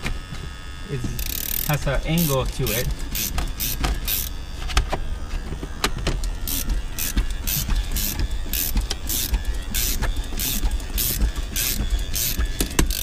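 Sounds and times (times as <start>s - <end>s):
ratchet winder cranking: 0.0s - 13.0s
sharp ratchet clicks: 0.9s - 4.9s, 5.8s - 13.0s.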